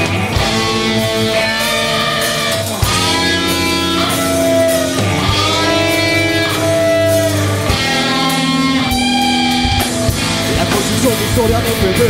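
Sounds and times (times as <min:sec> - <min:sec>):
bass guitar: 0:00.0 - 0:12.0
electric guitar chords: 0:00.0 - 0:12.0.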